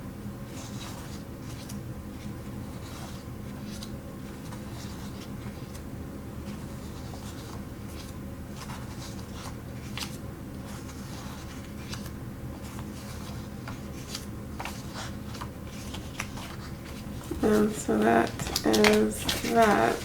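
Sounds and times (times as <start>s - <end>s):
steady low hum: 0.0s - 20.0s
small clicks and rustles of sheets: 0.5s - 20.0s.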